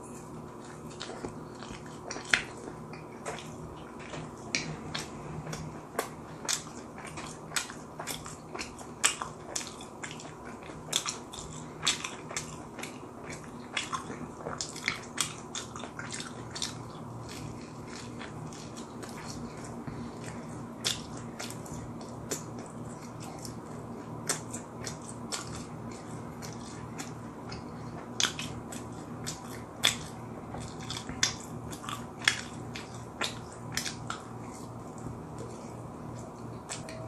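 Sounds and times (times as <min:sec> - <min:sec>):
chewing crispy food: 0:00.0 - 0:37.0
steady low hum: 0:00.0 - 0:37.0.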